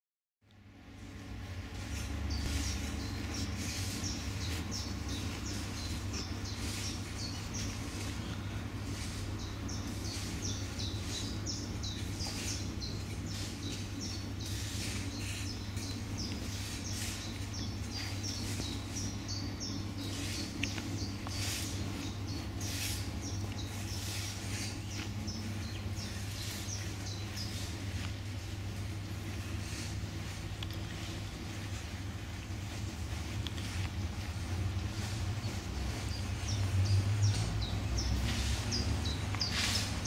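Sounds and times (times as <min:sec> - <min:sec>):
steady low hum: 0:00.4 - 0:40.0
birds chirping: 0:00.6 - 0:40.0.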